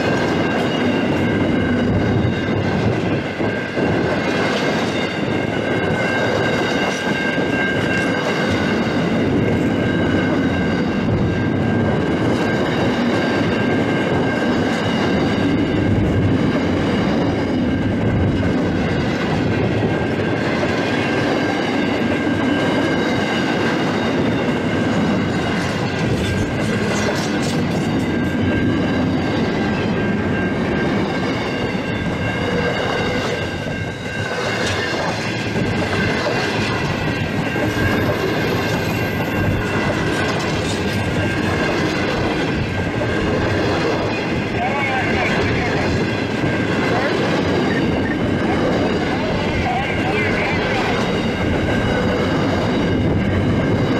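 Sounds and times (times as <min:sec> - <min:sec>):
freight train rumbling past: 0:00.0 - 0:53.9
high ringing: 0:00.0 - 0:53.9
wheel clatter on rails: 0:00.0 - 0:53.9.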